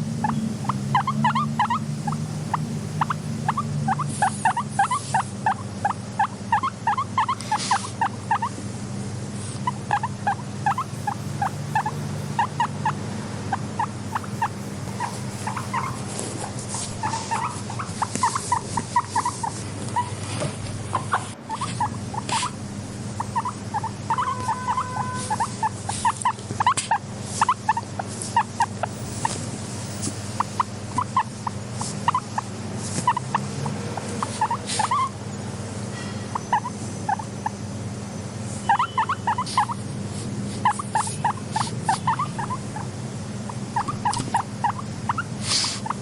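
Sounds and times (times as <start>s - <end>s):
guinea pigs calling: 0.0s - 46.0s.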